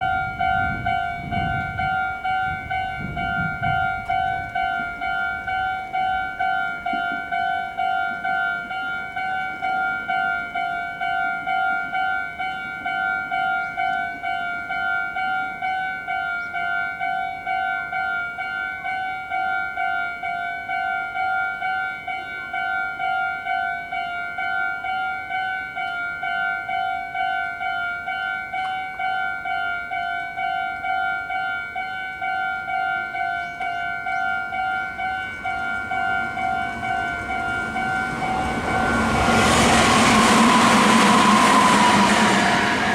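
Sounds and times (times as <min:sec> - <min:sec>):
level crossing warning bell: 0:00.0 - 0:42.9.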